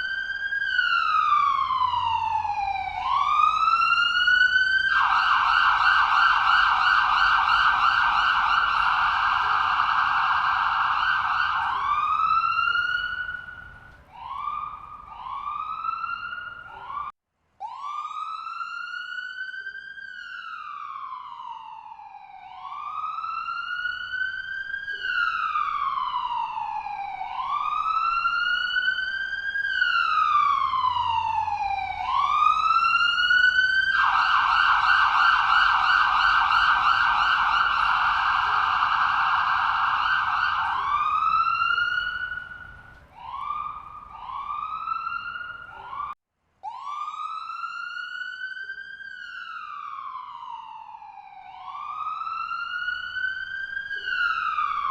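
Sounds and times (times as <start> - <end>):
ambulance siren: 0.0 - 54.9.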